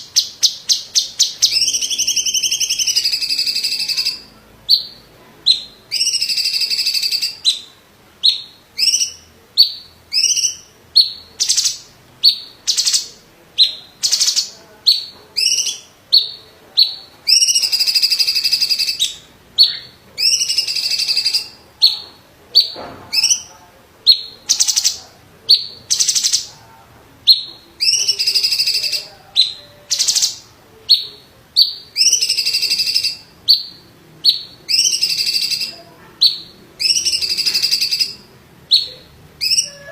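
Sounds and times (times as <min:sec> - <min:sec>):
bird singing high sharp notes: 0:00.0 - 0:22.0, 0:27.3 - 0:39.9.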